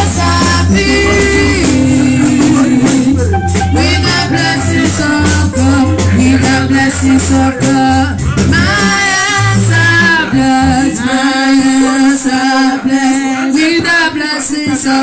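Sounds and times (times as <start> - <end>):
bass line: 0.0 - 15.0
man singing into microphone: 0.0 - 15.0.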